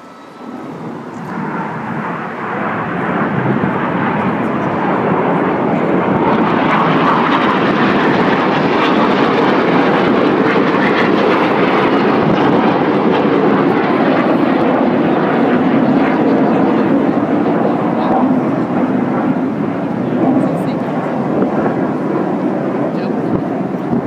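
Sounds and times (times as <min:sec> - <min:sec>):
jet engines rushing past: 0:00.0 - 0:24.0.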